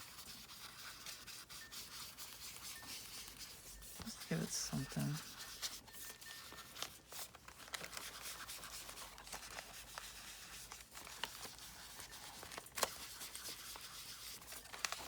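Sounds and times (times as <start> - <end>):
paper rustling and scratching: 0.0 - 15.0.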